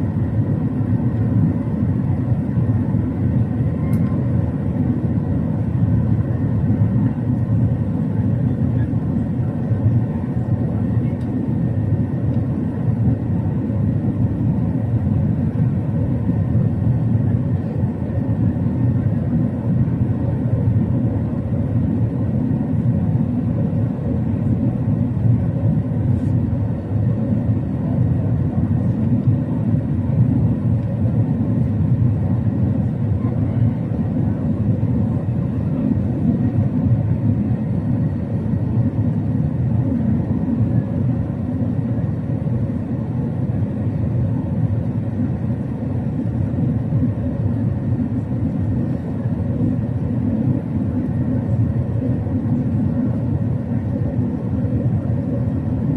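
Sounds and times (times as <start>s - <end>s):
airliner engines rumbling: 0.0s - 55.9s.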